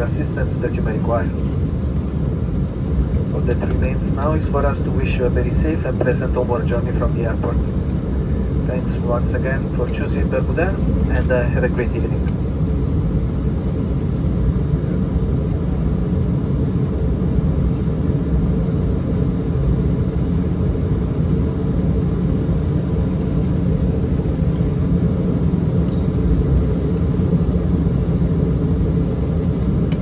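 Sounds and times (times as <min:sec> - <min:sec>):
airliner cabin low rumble: 0:00.0 - 0:30.0.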